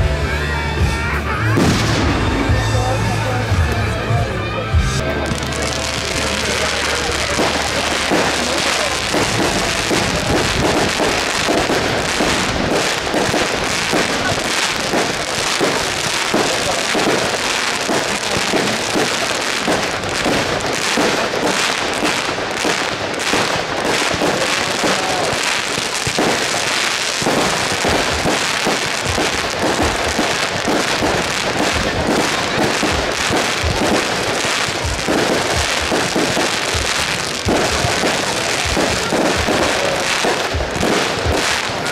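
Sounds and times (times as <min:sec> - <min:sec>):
fireworks crackling: 0:00.0 - 0:41.9.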